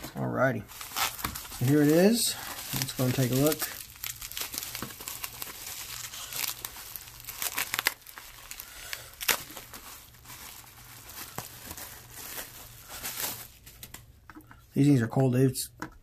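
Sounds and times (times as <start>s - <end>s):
bubble wrap crinkling: 0.0s - 14.1s.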